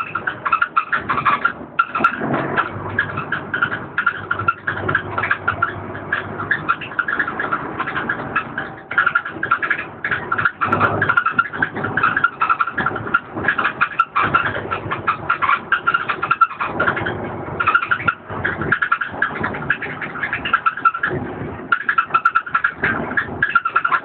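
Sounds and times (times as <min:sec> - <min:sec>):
bus body rattling and clattering: 0:00.0 - 0:24.0
bus engine rumble: 0:00.0 - 0:24.0.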